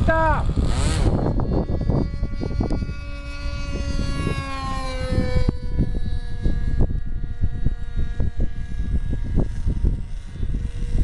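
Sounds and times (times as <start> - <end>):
model airplane engine drone: 0.0 - 11.0
wind on microphone: 0.0 - 11.0.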